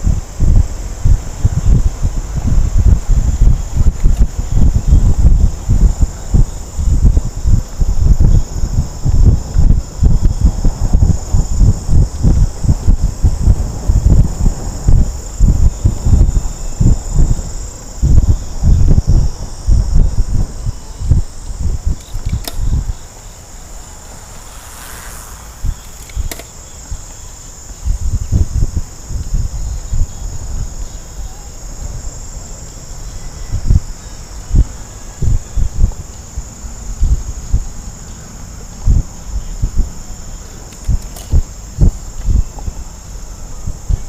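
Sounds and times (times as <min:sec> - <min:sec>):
wind buffeting microphone: 0:00.0 - 0:32.4, 0:40.8 - 0:44.0
insects chorus: 0:00.0 - 0:44.0.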